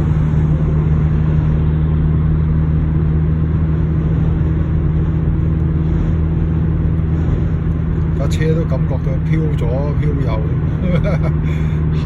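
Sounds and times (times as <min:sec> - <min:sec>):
tyres and engine drone: 0:00.0 - 0:12.0
wind noise around car: 0:00.0 - 0:12.0.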